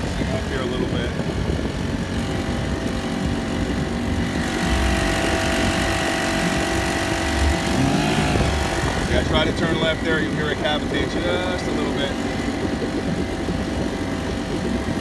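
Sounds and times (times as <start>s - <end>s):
low rumble: 0.0s - 15.0s
outboard motor running: 0.0s - 15.0s.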